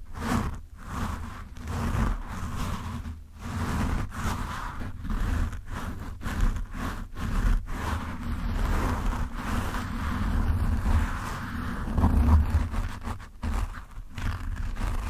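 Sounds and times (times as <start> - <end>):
fingertips scratching microphone windscreen: 0.0 - 15.0.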